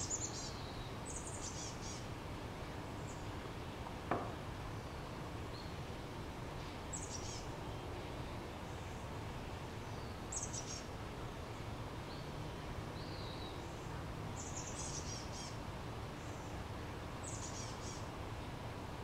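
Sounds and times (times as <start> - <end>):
outdoor ambience hiss: 0.0 - 19.0
songbird chirps: 0.0 - 19.0.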